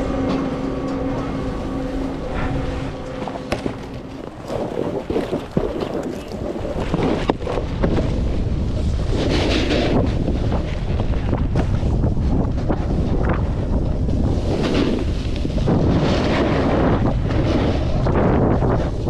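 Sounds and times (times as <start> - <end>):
mechanical hum: 0.0 - 19.0
snowboard scraping over snow: 0.0 - 19.0
wind buffeting microphone: 0.0 - 19.0.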